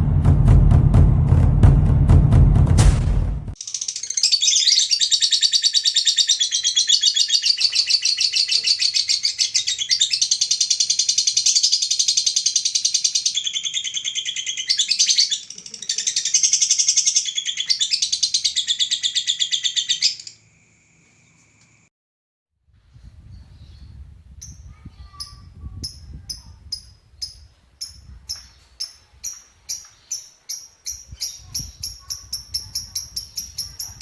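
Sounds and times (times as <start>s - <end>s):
lovebird chattering trill: 3.6s - 20.4s, 23.6s - 34.0s.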